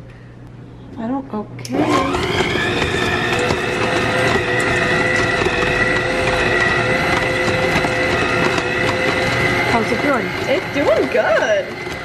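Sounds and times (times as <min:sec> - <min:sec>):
stand mixer whining: 0:01.7 - 0:12.0.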